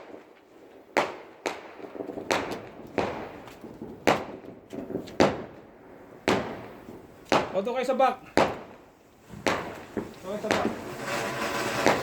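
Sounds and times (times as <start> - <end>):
fireworks bangs: 0.0 - 12.0
small fireworks pops: 0.0 - 12.0.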